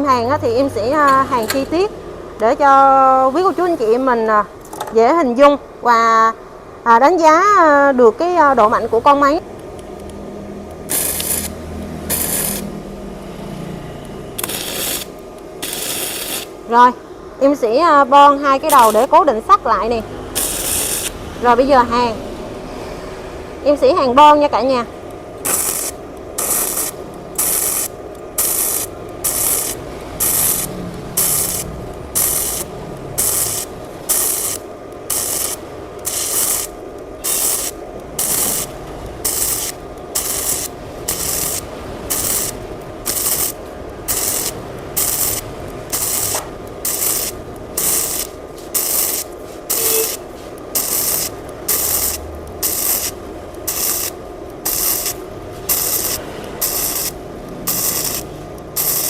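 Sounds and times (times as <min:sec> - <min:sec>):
welder arc crackling: 0:06.9 - 0:22.6, 0:23.6 - 0:59.0
welding machine hum: 0:07.6 - 0:22.7, 0:23.7 - 0:59.0.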